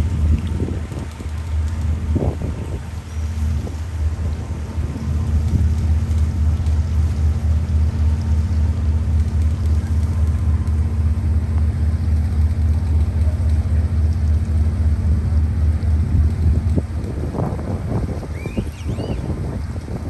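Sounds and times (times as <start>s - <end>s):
boat diesel engines droning: 0.0s - 20.0s
constant hum: 0.0s - 20.0s.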